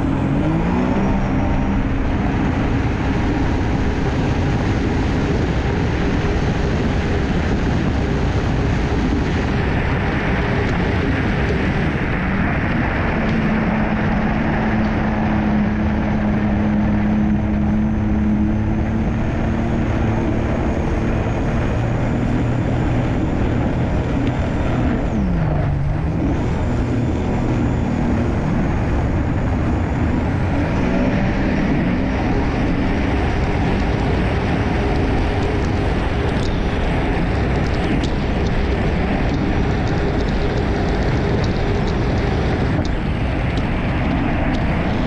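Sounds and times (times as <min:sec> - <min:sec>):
watercraft engine running: 0:00.0 - 0:45.0
wind on microphone: 0:00.0 - 0:45.0.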